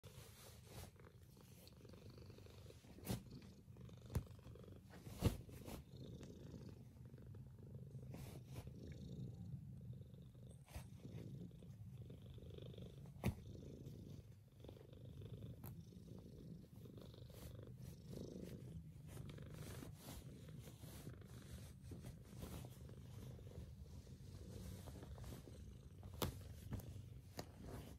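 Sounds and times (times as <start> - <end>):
cat purring: 0.0 - 27.9.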